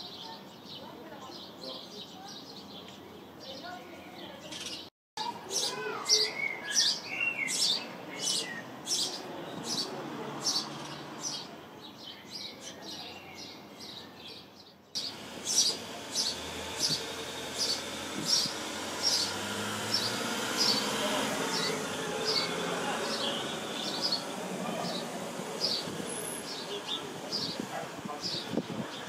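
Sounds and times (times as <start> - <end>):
sparrow chirping: 0.0 - 29.0.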